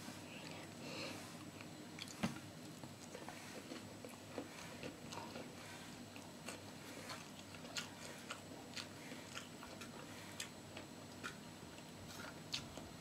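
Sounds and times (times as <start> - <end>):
person chewing crunchy food: 1.4 - 13.0.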